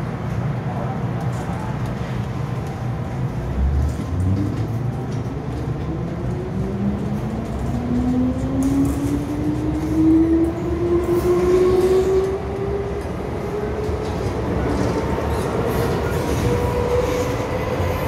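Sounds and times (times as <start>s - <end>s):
train car rumble: 0.0s - 18.0s.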